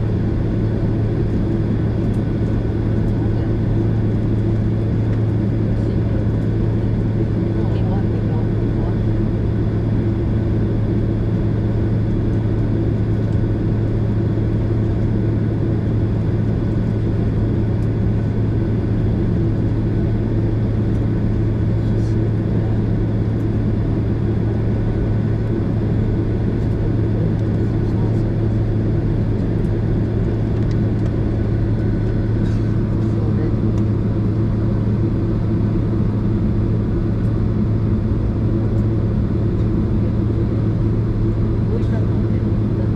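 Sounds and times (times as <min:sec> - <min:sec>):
airliner cabin drone: 0:00.0 - 0:42.9
low engine hum: 0:00.0 - 0:42.9.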